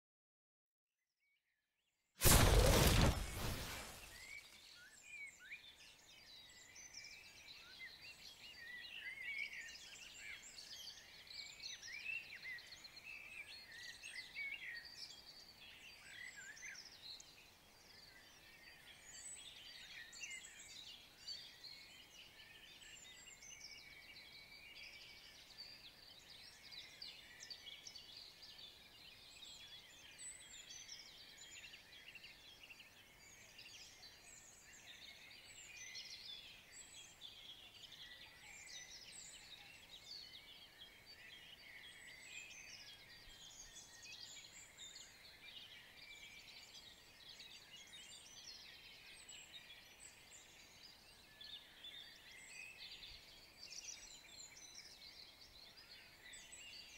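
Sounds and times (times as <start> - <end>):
chorus of birds singing: 2.3 - 56.9.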